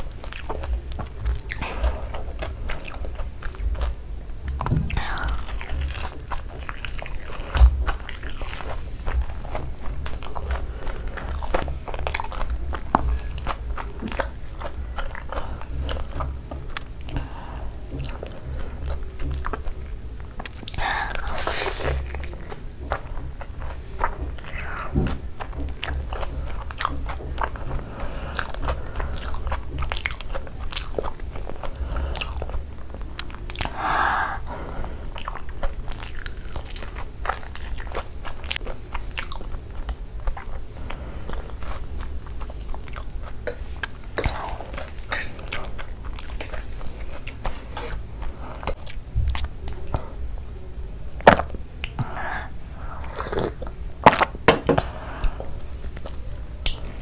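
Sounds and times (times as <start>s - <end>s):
crunchy chewing: 0.0s - 50.2s, 51.2s - 57.0s.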